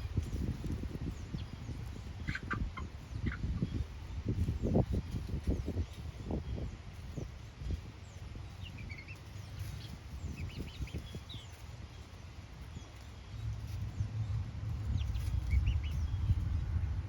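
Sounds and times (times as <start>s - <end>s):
chickens clucking: 0.0s - 13.9s, 14.6s - 16.9s.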